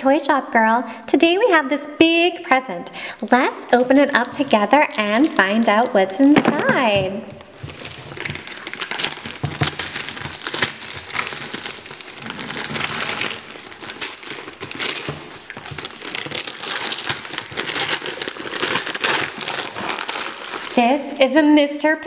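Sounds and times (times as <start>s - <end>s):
wrapping paper crinkling and tearing: 3.2s - 21.0s.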